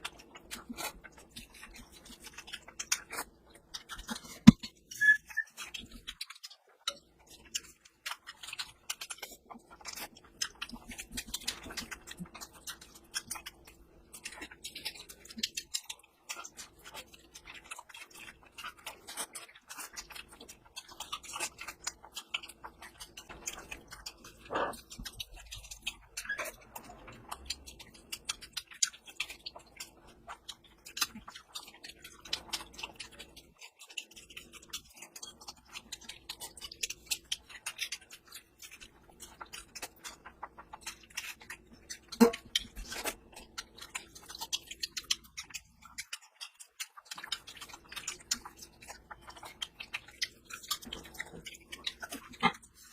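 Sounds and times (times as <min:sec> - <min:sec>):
person chewing and smacking: 0:00.0 - 0:52.9.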